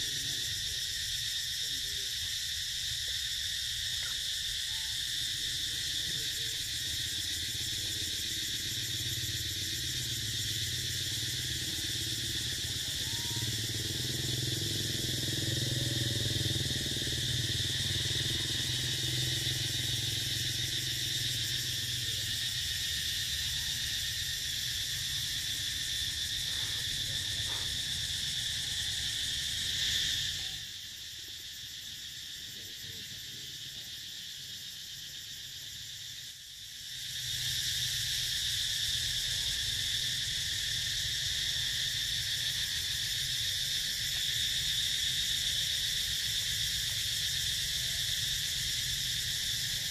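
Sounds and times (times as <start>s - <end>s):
high insect chorus buzzing: 0.0s - 49.9s.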